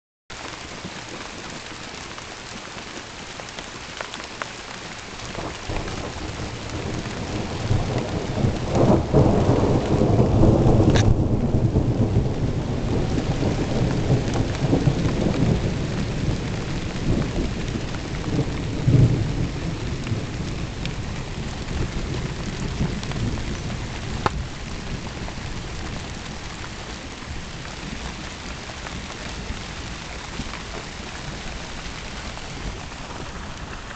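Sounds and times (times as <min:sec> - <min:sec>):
steady rain: 0:00.3 - 0:33.9
rolling thunder: 0:05.3 - 0:33.9.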